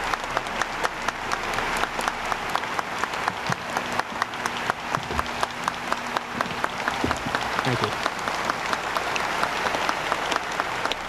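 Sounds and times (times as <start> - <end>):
large crowd applauding: 0.0 - 11.0.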